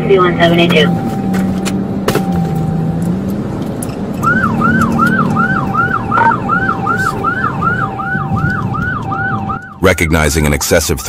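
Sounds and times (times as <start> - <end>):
police siren yelping: 0.0 - 9.8
car engine and road noise: 0.0 - 11.0.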